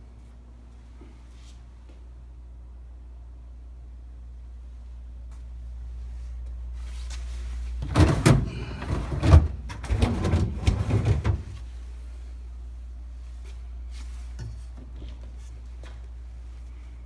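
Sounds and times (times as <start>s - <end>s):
refrigerator humming: 2.2s - 17.0s.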